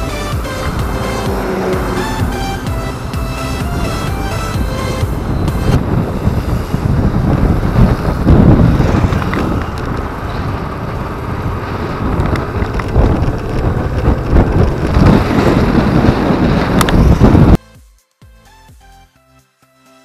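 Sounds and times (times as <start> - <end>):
road and traffic noise: 0.0 - 17.6
wind buffeting microphone: 0.0 - 17.6.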